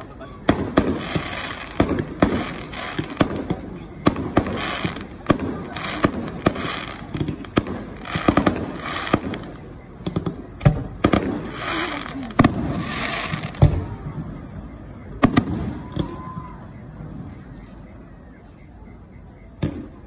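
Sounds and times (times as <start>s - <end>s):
fireworks bangs: 0.0s - 17.5s, 19.4s - 20.0s
fireworks crackling: 0.0s - 17.5s.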